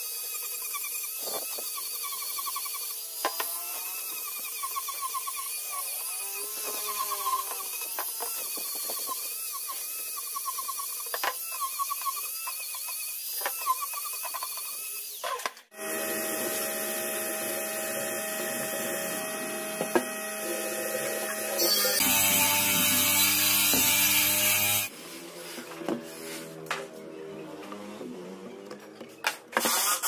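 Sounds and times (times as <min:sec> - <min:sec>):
angle grinder sanding wood: 0:00.0 - 0:15.3, 0:15.9 - 0:26.6
rotary tool grinding wood: 0:00.0 - 0:24.9.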